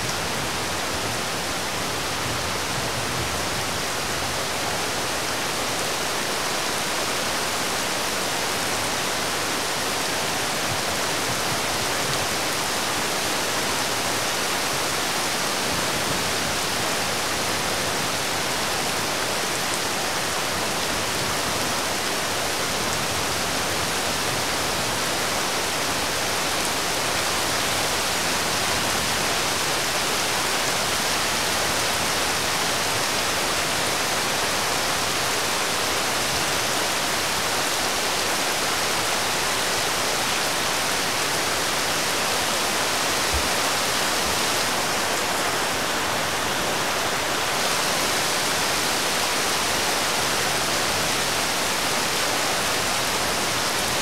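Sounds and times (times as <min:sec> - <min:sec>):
steady rain on road and roofs: 0:00.0 - 0:54.0.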